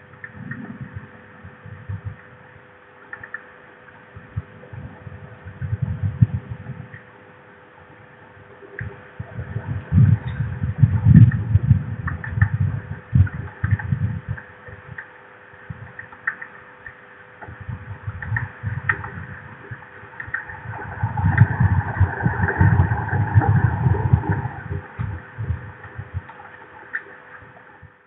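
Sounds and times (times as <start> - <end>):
wind buffeting microphone: 0.0 - 2.7, 4.1 - 7.1, 8.0 - 15.0, 17.4 - 28.0
electrical hum: 0.0 - 28.0.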